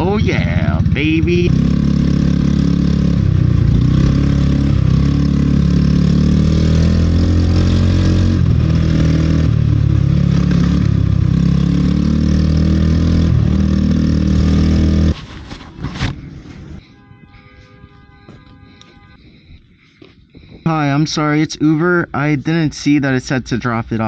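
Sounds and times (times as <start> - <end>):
vehicle engine droning: 0.0 - 19.9.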